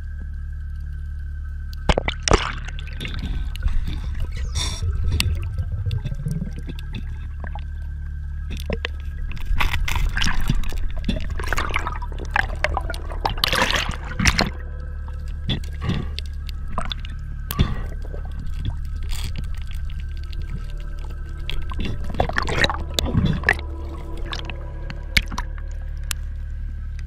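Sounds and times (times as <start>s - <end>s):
underwater rumble: 0.0s - 27.0s
clicks underwater: 1.8s - 26.2s
bubbling and splashing: 1.8s - 26.8s.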